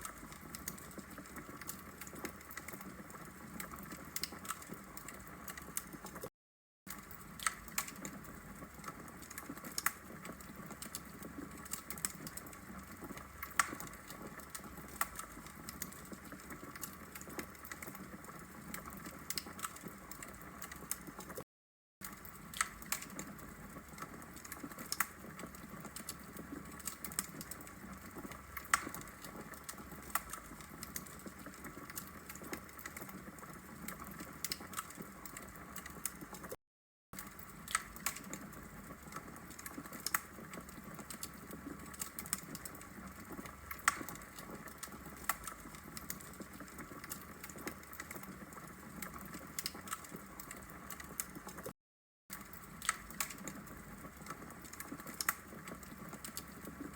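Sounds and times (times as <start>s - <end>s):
fire crackling and popping: 0.0s - 6.3s, 6.9s - 21.4s, 22.0s - 36.6s, 37.2s - 51.7s, 52.3s - 56.9s.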